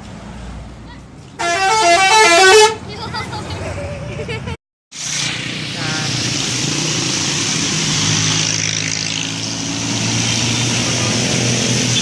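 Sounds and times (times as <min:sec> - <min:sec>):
road noise hiss: 0:00.0 - 0:12.0.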